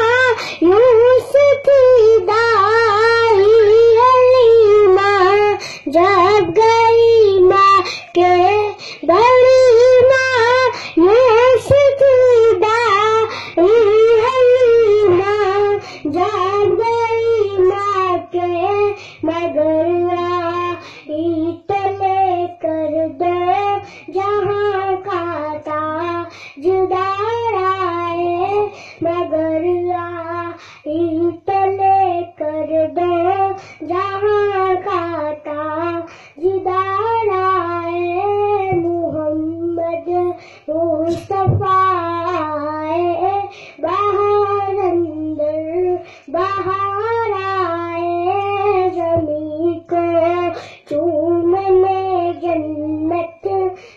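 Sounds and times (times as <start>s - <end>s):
boy singing devotional song: 0.0s - 53.9s.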